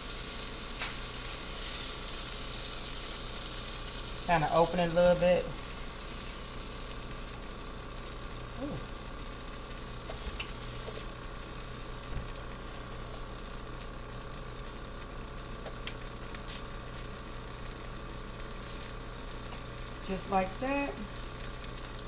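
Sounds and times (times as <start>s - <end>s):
bread sizzling in frying pan: 0.0s - 22.0s.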